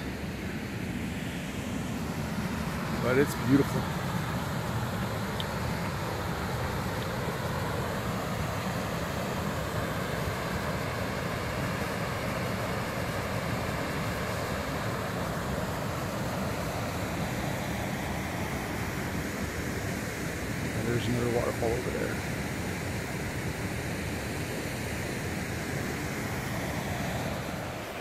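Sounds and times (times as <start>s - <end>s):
water rushing over rocks: 0.9s - 28.0s.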